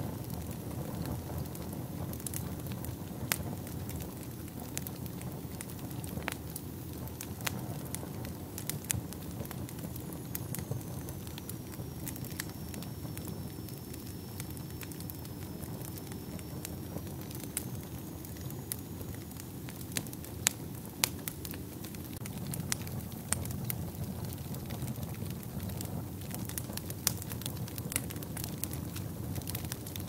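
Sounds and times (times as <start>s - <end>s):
fire burning in a fireplace: 0.0s - 30.0s
fire crackling and popping: 0.0s - 30.0s.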